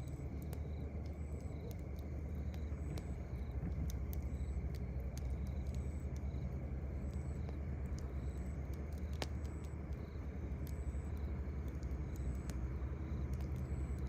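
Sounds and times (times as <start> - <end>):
campfire crackling: 0.0 - 14.0
insect chirps: 0.0 - 14.0.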